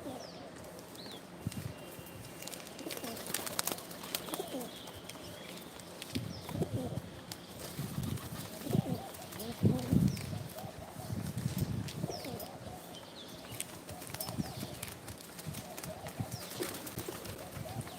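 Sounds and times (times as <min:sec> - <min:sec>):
pigeon cooing: 0:00.0 - 0:00.7, 0:02.8 - 0:05.0, 0:06.4 - 0:17.9.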